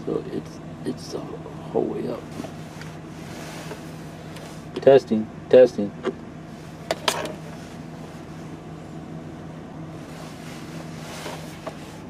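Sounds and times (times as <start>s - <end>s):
radio speaker hum and hiss: 0.0s - 12.0s.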